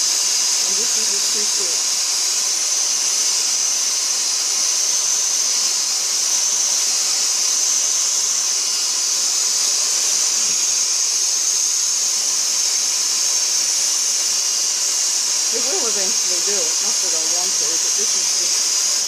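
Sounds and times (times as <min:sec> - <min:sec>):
cordless vacuum whining: 0:00.0 - 0:19.0.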